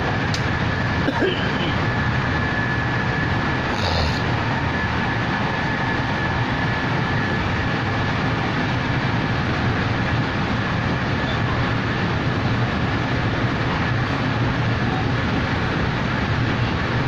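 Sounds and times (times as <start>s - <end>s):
train carriage rumble and hiss: 0.0s - 17.0s.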